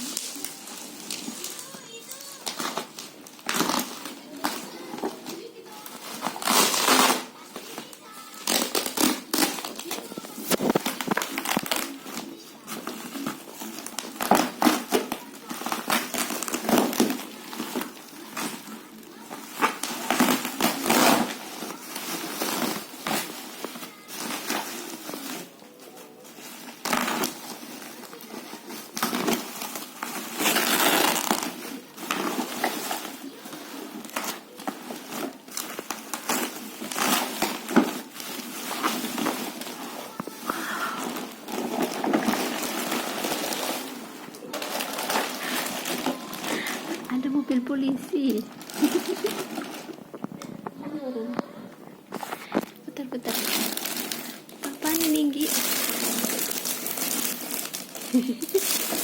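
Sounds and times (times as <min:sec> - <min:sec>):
packaging rustling and crinkling: 0:00.0 - 0:59.0.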